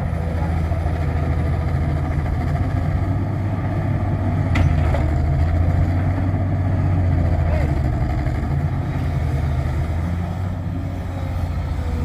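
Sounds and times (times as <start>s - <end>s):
diesel engine low drone: 0.0s - 12.0s.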